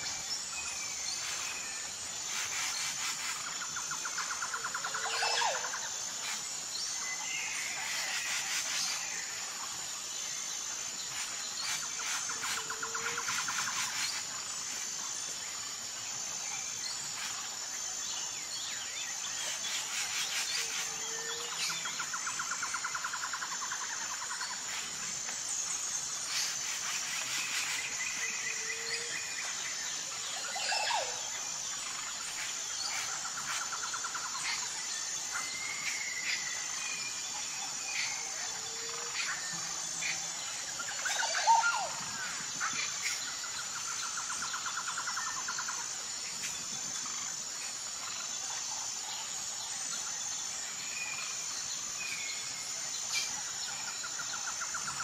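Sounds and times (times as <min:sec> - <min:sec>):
insect trill: 0:00.0 - 0:55.0.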